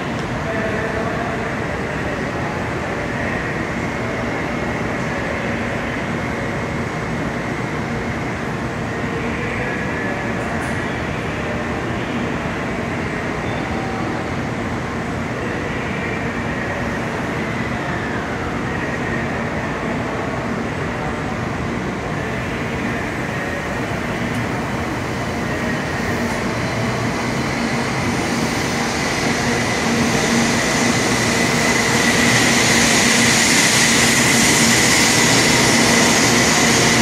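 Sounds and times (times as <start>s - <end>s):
standing train humming: 0.0s - 37.0s.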